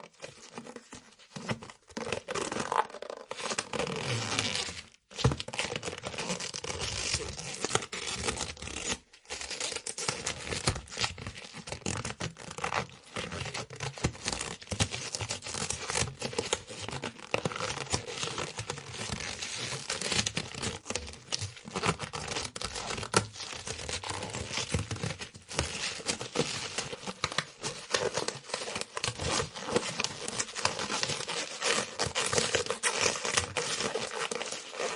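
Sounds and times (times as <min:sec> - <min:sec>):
rubber stretching and creaking: 0:00.5 - 0:34.9.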